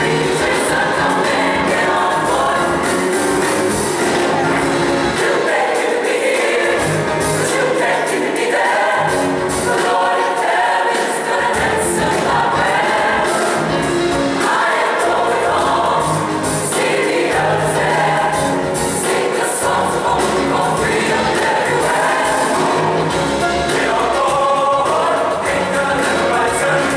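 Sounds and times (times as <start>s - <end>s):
children's choir singing: 0.0s - 26.9s
instrumental accompaniment: 0.0s - 26.9s.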